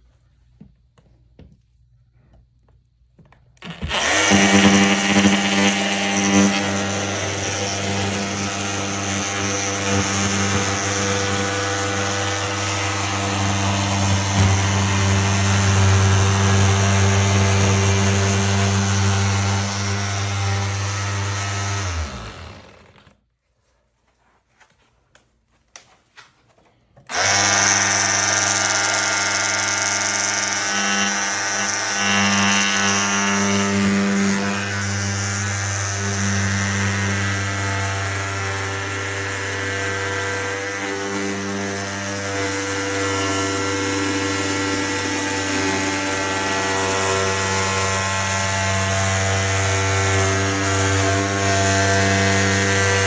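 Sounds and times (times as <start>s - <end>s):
power saw cutting drywall: 3.6s - 23.2s, 27.1s - 53.0s.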